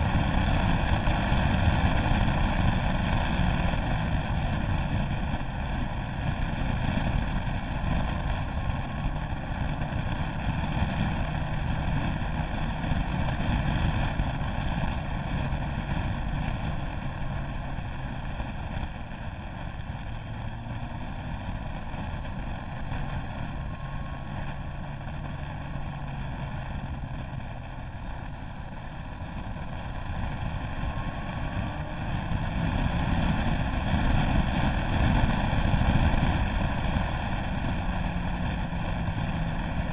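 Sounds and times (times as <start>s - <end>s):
motorcycle engine running: 0.0s - 39.9s
wind rushing over camera: 0.0s - 39.9s.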